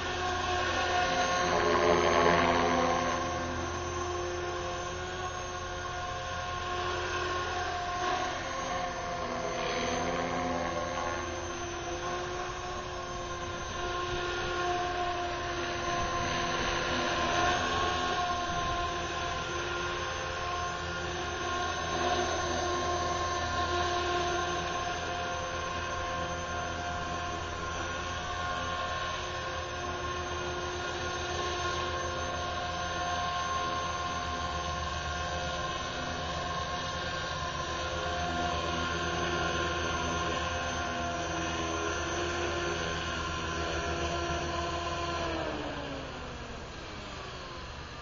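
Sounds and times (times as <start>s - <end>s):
model helicopter hovering: 0.0s - 48.0s.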